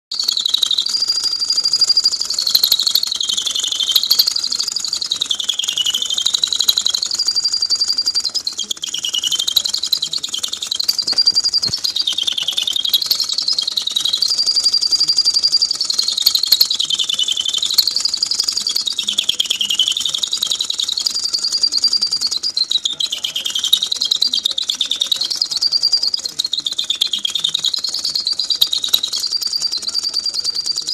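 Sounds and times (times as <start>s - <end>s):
toy bird whistle chirping: 0.1s - 30.9s.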